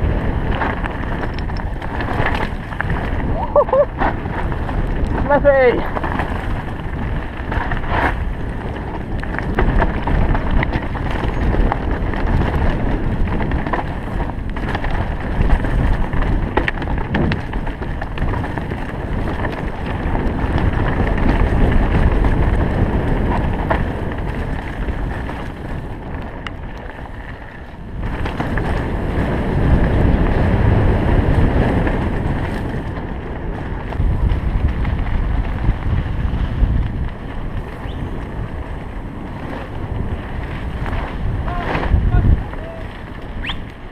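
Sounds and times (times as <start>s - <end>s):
bike clattering and ticking: 0.0s - 43.9s
bike tyres rumbling on gravel: 0.0s - 43.9s
wind on microphone: 0.0s - 43.9s.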